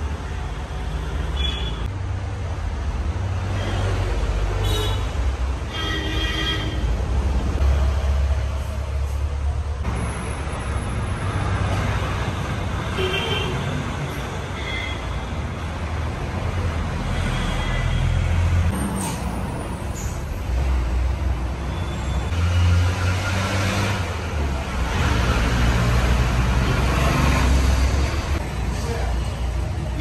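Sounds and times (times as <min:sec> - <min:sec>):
vehicle engines passing: 0:00.0 - 0:13.0, 0:13.6 - 0:30.0.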